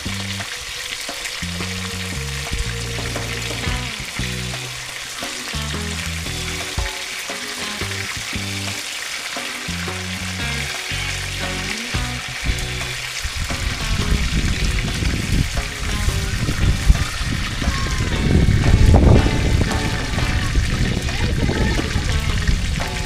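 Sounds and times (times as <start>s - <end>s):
low rumbling noise: 0.0s - 6.8s, 9.7s - 23.0s
background music with bass line: 0.0s - 23.0s
food sizzling in a pot: 0.0s - 23.0s.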